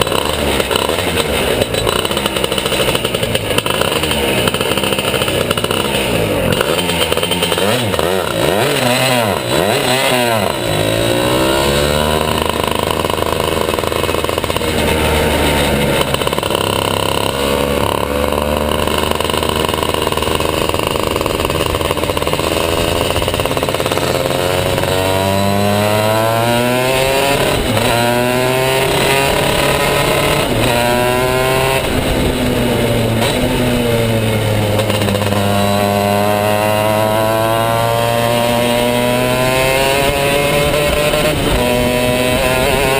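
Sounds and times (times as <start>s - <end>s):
two-stroke kart engine revving: 0.0s - 42.9s.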